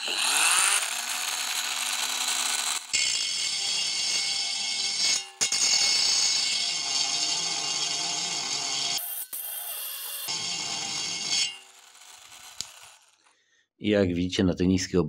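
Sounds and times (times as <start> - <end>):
angle grinder cutting aluminium: 0.0 - 13.2.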